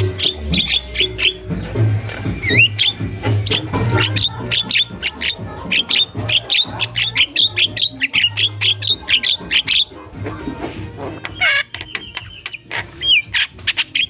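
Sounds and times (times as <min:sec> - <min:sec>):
bird squawking calls: 0:00.0 - 0:14.0.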